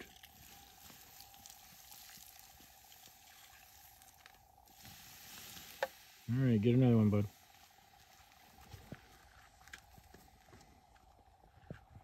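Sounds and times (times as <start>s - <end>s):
water sizzling on hot embers: 0.0s - 11.4s.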